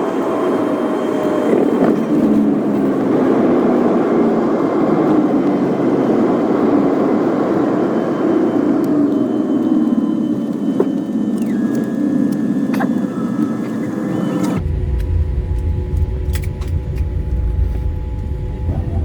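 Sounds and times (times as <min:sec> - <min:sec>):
airliner cabin engine rush: 0:00.0 - 0:19.0
faint steady tones: 0:00.0 - 0:19.0.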